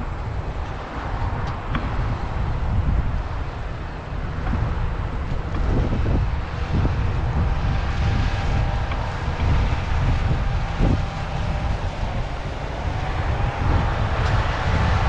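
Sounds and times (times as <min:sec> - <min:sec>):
farm machinery engine rumble: 0:00.0 - 0:15.0
wind noise on microphone: 0:00.0 - 0:15.0.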